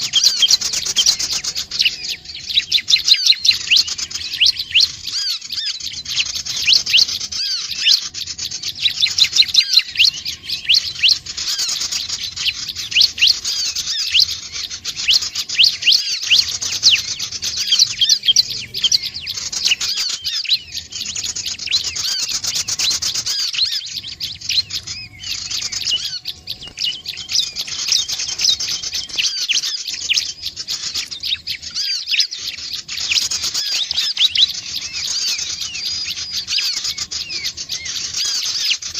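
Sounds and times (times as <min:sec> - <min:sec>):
bird chirps and trills: 0:00.0 - 0:38.9.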